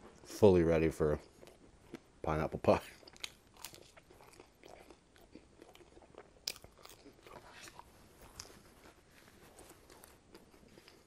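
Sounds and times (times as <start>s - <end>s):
chewing crunchy crust: 1.2s - 11.0s.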